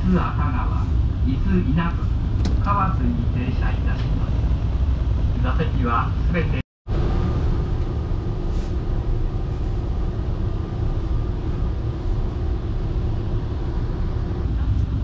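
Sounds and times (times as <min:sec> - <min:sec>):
train car rumble and hum: 0:00.0 - 0:15.0.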